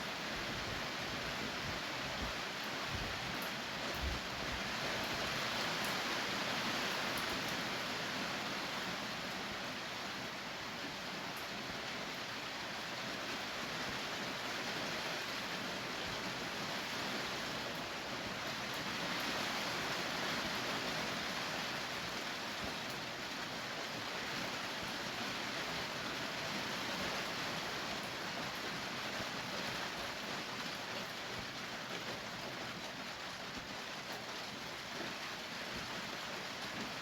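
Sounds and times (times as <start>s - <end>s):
steady rainfall: 0.0s - 37.0s.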